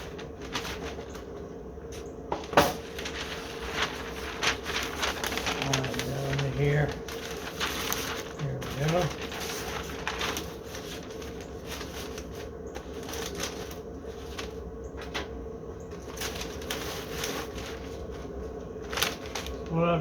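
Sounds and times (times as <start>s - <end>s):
faint hum: 0.0s - 20.0s
paper rustling: 0.0s - 20.0s.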